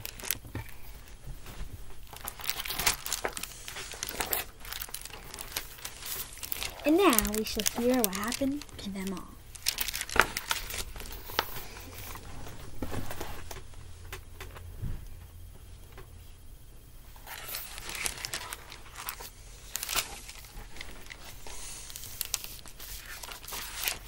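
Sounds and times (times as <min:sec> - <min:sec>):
book pages rustling: 0:00.0 - 0:13.7, 0:17.2 - 0:24.0.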